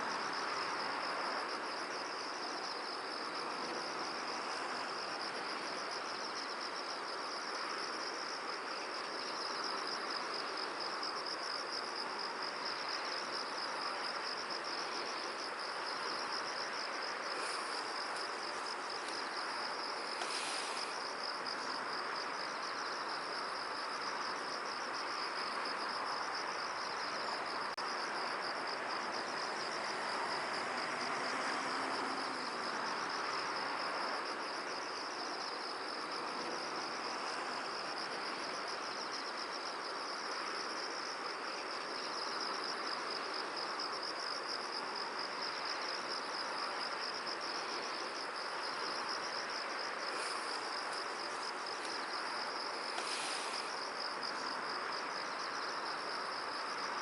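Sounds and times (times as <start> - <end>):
insects trilling: 0.0 - 57.0
wind hissing through field: 0.0 - 57.0.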